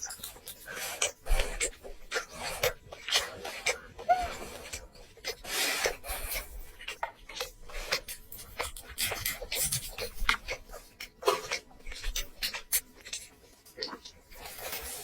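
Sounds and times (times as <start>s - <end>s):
wet chewing smacks: 0.0s - 15.0s.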